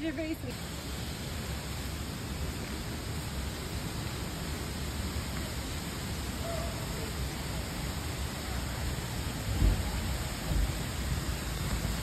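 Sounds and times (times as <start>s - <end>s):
waterfall rushing: 0.5s - 12.0s.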